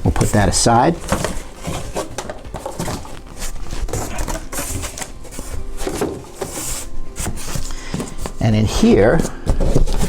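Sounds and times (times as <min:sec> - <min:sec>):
cardboard packaging rustling and knocking: 0:00.0 - 0:08.5, 0:09.2 - 0:10.0.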